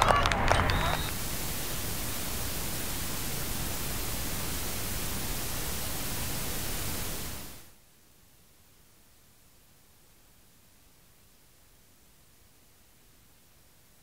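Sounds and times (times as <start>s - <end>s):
steady static hiss: 0.0s - 14.0s.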